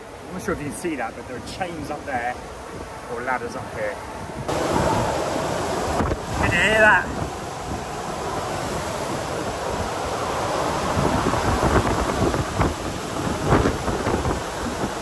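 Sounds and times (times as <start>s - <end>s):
wind buffeting microphone: 1.6s - 15.0s.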